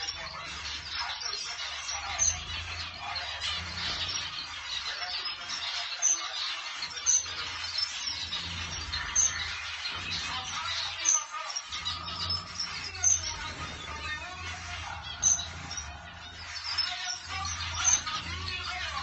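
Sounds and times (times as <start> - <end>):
finches chirping and chattering: 0.0 - 19.0.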